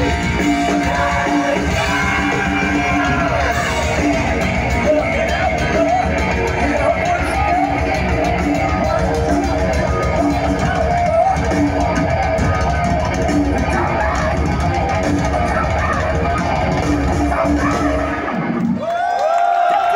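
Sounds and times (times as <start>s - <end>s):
live hard rock band: 0.0s - 18.8s.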